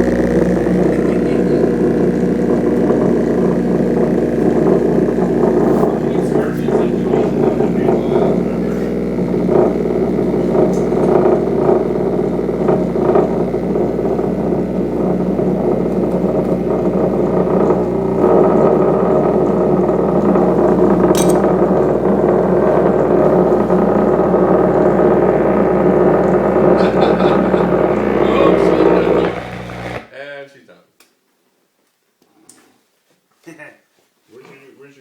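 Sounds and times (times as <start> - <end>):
subwoofer buzzing loudly: 0.0 - 30.1.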